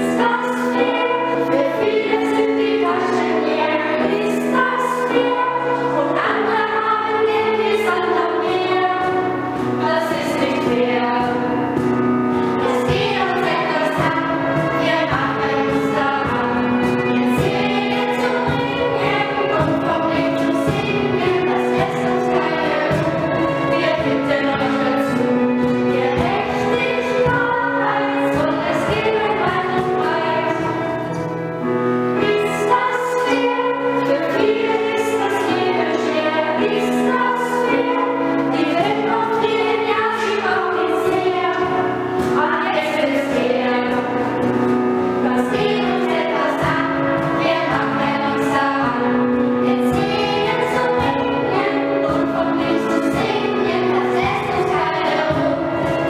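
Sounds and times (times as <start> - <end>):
children singing: 0.0 - 56.0.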